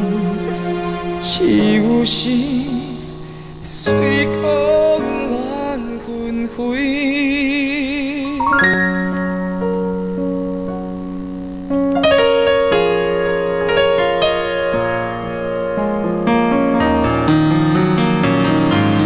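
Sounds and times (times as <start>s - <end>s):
electronic keyboard piano chords: 0.0s - 19.0s.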